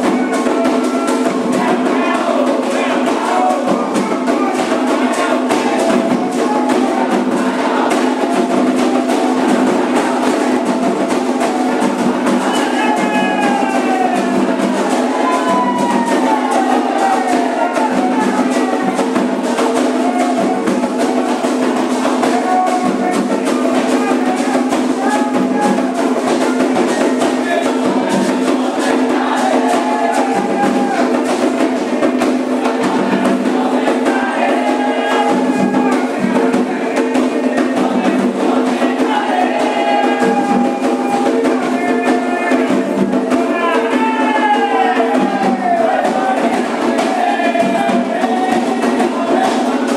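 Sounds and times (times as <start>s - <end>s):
hand drums and percussion rhythm: 0.0s - 49.9s
voices singing chants: 0.0s - 49.9s.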